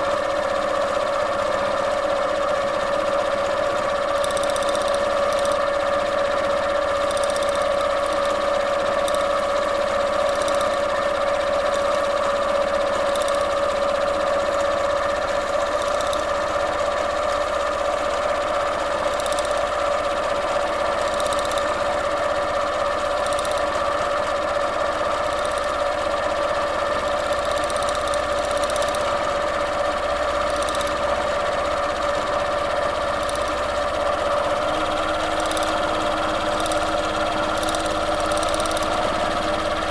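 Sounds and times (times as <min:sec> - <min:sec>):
sewing machine motor whine: 0:00.0 - 0:39.9.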